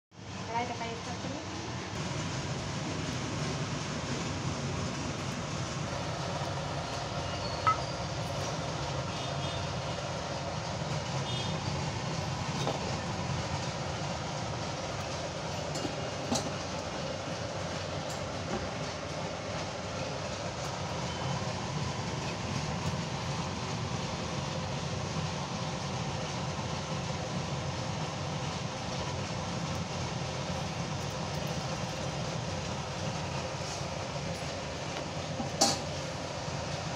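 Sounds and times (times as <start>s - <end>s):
induction cooktop whirring hum: 0.1s - 36.9s.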